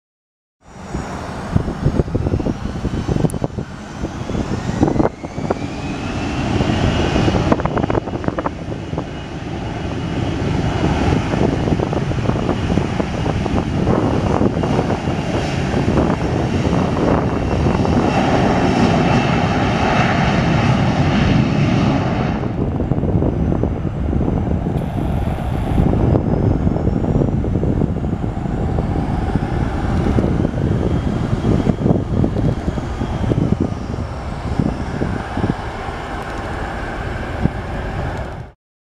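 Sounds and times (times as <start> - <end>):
jet engines whining: 0.6 - 38.6
low jet rumble: 0.6 - 38.6.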